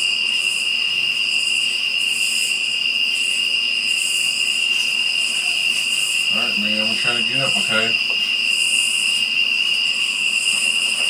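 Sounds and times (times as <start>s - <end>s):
insect buzz: 0.0s - 11.0s
night insects trilling: 0.0s - 11.0s.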